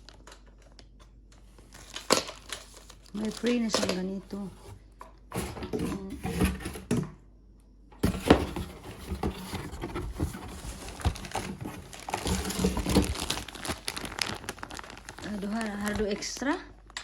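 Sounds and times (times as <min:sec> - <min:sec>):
packaging rustling: 0:00.0 - 0:04.7, 0:08.0 - 0:17.0.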